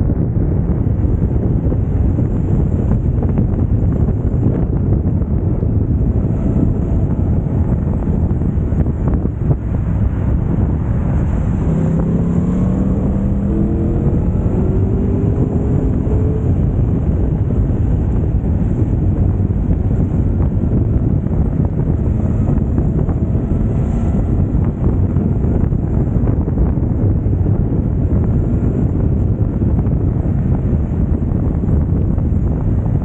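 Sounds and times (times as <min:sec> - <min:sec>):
motorcycle engine accelerating: 0:00.0 - 0:33.0
wind rumble on microphone: 0:00.0 - 0:33.0.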